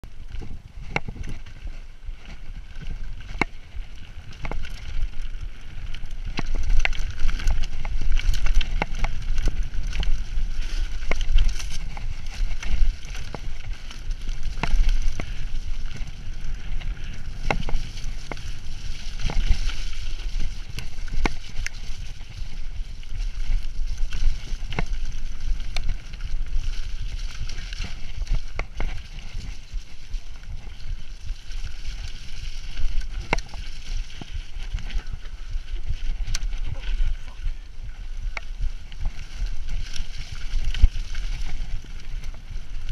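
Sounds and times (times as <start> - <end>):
bike clicks and rattles: 0.0 - 42.9
bike tyres on mud: 0.0 - 42.9
wind on microphone: 0.0 - 42.9.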